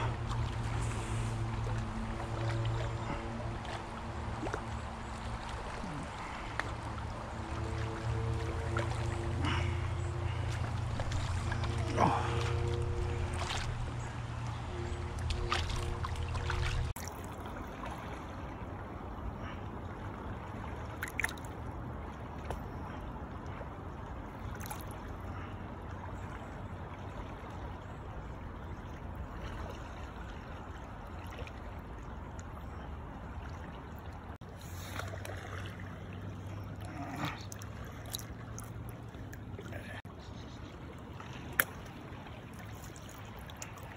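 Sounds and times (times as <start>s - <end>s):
stream water running: 0.0s - 43.9s.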